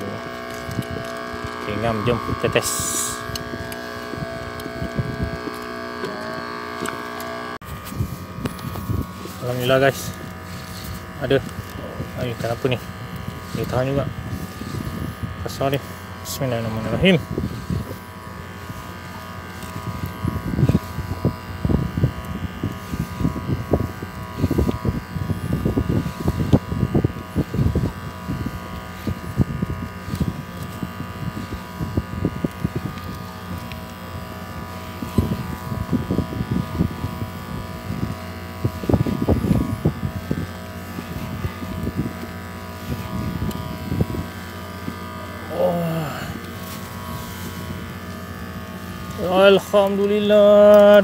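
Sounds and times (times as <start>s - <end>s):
fishing rod and reel knocking: 0.0s - 45.3s
steady buzzing hum: 0.0s - 51.0s.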